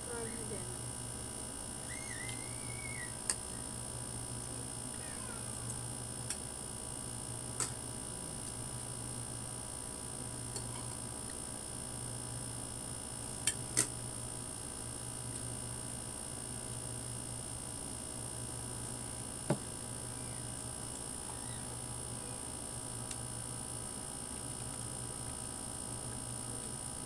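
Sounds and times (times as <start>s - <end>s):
low hum and hiss: 0.0s - 27.0s.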